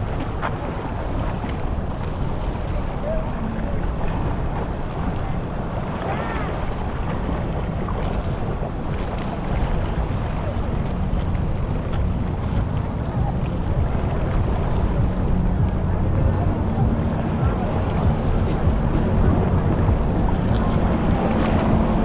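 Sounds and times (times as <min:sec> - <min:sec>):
sea surf: 0:00.0 - 0:22.0
wind buffeting microphone: 0:00.0 - 0:22.0.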